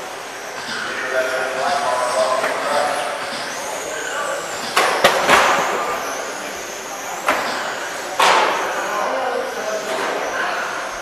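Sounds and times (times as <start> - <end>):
rc car motor whine: 0.0 - 11.0.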